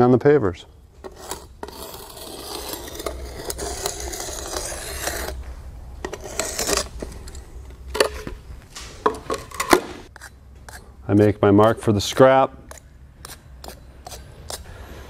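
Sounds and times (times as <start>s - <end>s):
marker scraping over clay pavers: 1.0s - 8.4s, 10.0s - 15.0s.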